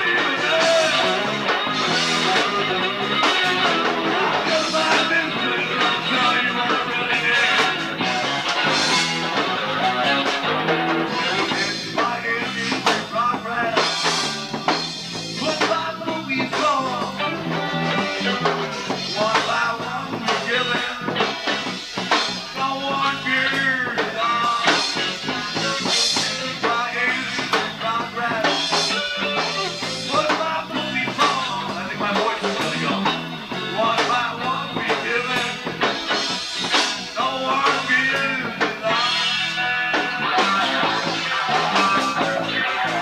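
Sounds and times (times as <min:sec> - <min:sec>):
rock band playing live: 0:00.0 - 0:43.0.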